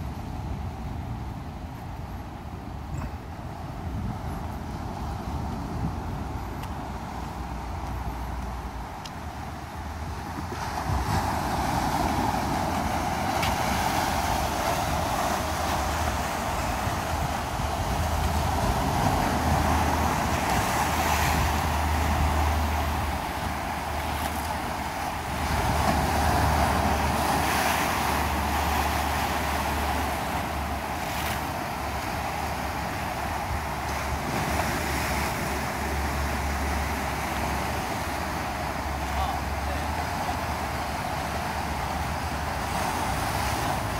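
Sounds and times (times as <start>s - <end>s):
wind buffeting microphone: 0.0s - 39.0s
sea waves breaking on shore: 0.0s - 43.9s.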